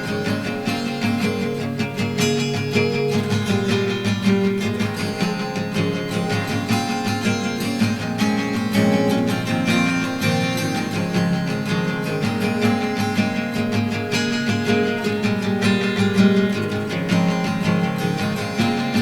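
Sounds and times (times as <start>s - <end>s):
strummed guitar chords: 0.0s - 19.0s.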